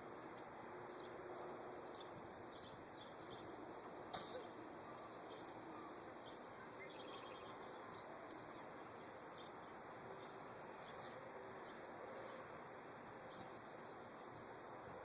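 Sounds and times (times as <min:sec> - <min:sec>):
faint outdoor background noise: 0:00.0 - 0:15.0
bird chirp: 0:00.9 - 0:12.7, 0:14.6 - 0:15.0.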